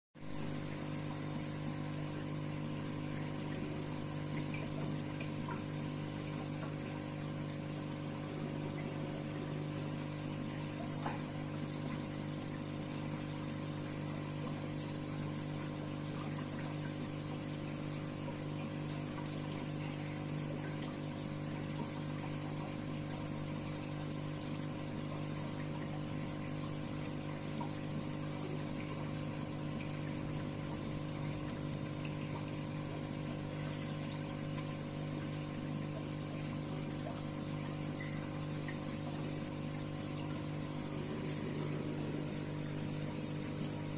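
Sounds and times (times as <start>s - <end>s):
aquarium pump humming: 0.2s - 43.9s.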